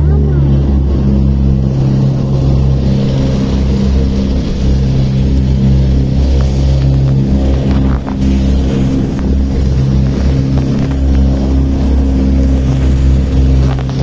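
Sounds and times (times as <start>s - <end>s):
motorboat engine humming: 0.0s - 14.0s.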